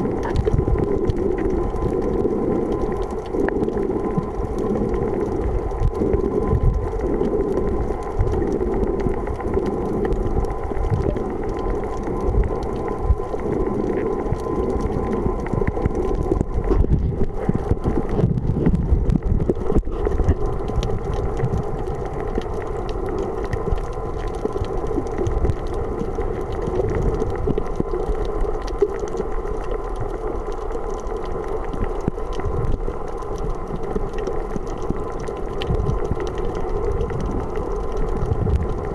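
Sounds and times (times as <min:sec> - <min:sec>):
faint steady hum: 0:00.0 - 0:38.9
muffled underwater noise: 0:00.0 - 0:38.9.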